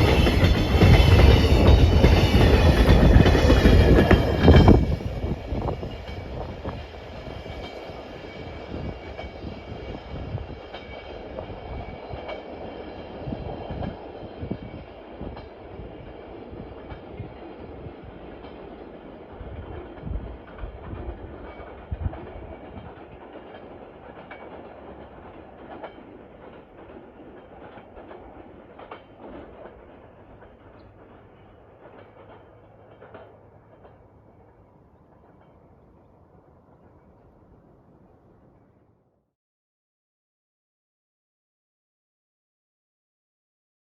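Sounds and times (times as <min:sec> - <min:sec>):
train wheels clacking over rail joints: 0:00.0 - 0:36.2
train rumble: 0:00.0 - 0:39.1.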